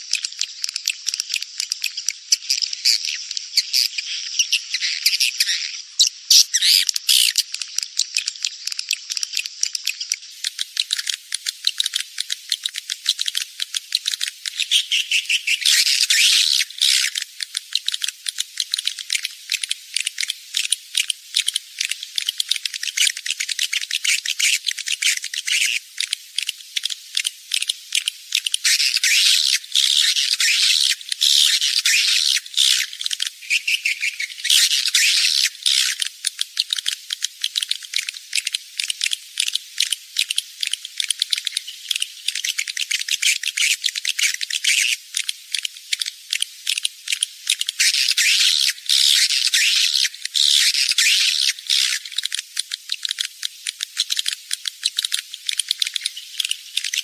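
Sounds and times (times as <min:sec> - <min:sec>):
swiftlets clicking and chattering: 0:06.0 - 0:14.8, 0:15.6 - 0:57.0.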